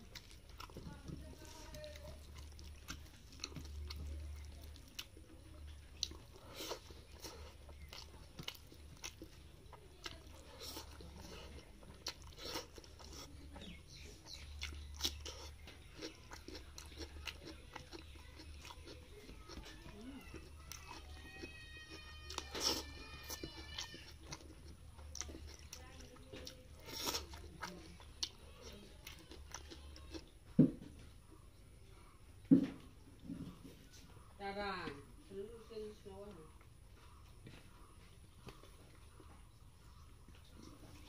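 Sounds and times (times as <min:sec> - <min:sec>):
chewing and mouth smacks: 0:00.0 - 0:21.5, 0:22.3 - 0:34.2, 0:36.5 - 0:41.0.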